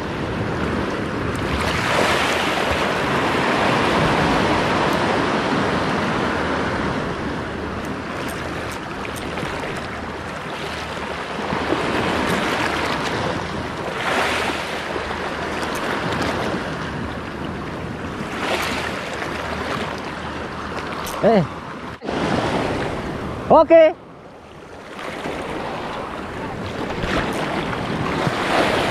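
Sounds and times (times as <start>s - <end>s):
wind on microphone: 0.0s - 23.5s, 24.6s - 28.9s
sea waves breaking on shore: 0.0s - 28.9s.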